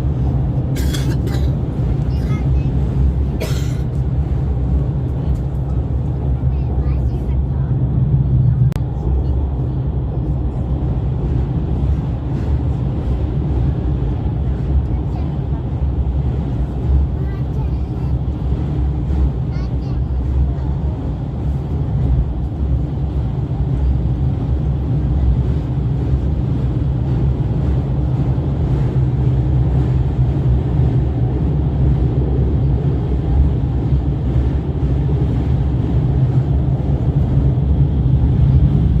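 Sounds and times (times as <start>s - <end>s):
train running at speed: 0.0s - 39.0s.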